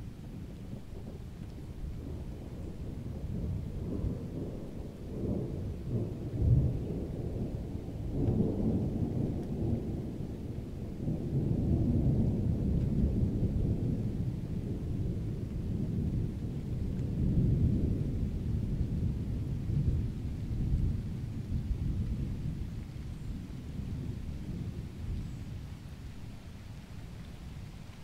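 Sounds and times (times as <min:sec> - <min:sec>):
distant rolling thunder: 0:00.0 - 0:28.0.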